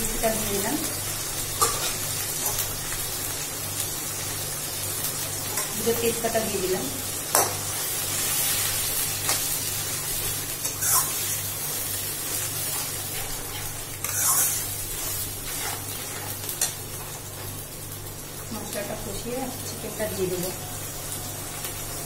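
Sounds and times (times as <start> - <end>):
masala sizzling in hot oil: 0.0 - 22.0.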